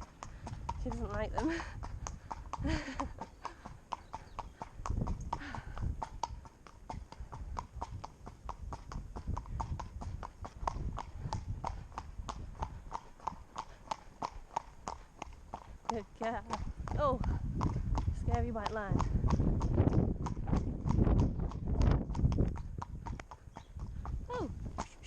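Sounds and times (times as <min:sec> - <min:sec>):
hooves clip-clopping on hard road: 0:00.0 - 0:25.0
wind rumbling on microphone: 0:00.0 - 0:25.0.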